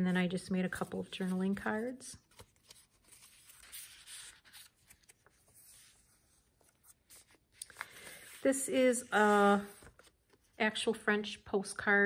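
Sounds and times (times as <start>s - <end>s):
paper and card rustling: 0.2s - 10.9s
page turning: 0.7s - 10.6s.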